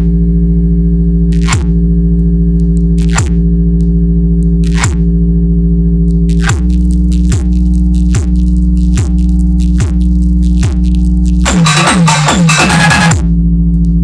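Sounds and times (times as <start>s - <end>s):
electronic music with heavy bass: 0.0s - 0.2s, 1.0s - 5.2s, 6.1s - 14.0s.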